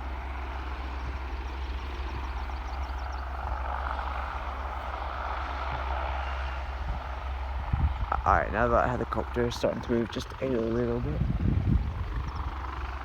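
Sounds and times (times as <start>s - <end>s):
helicopter engine and rotor: 0.0s - 13.0s
low rumble: 0.0s - 13.0s.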